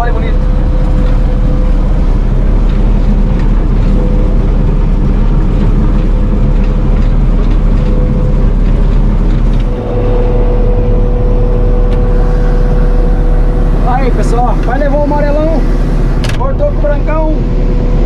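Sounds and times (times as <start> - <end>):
combine harvester engine running: 0.0 - 18.0
constant machine whine: 0.0 - 18.0.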